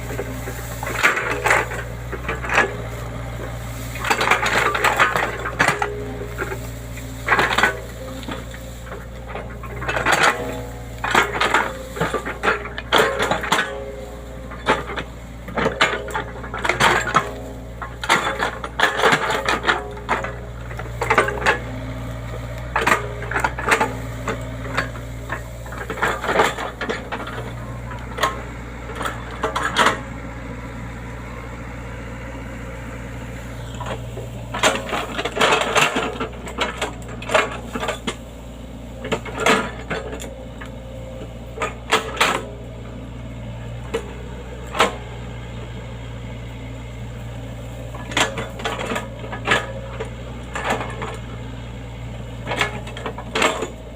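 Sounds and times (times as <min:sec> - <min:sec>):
sharp metallic clanks and knocks: 0:00.0 - 0:30.2, 0:33.4 - 0:38.3, 0:38.9 - 0:43.0, 0:43.6 - 0:45.2, 0:47.1 - 0:51.4, 0:52.3 - 0:53.8
excavator engine humming: 0:00.0 - 0:53.9.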